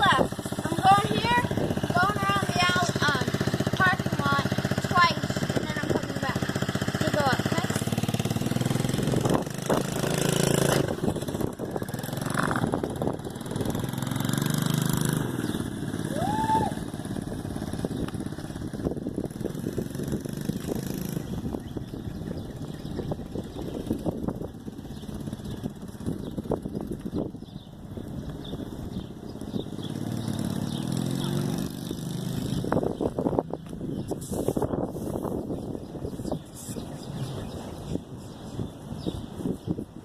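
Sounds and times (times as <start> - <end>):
dirt bike engine revving: 0.0 - 26.8, 29.4 - 35.5.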